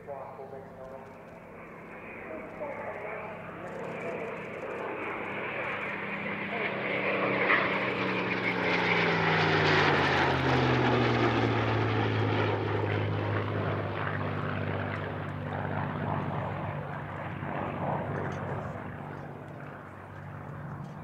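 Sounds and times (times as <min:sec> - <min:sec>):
jet and propeller aircraft passing: 0:00.0 - 0:21.0.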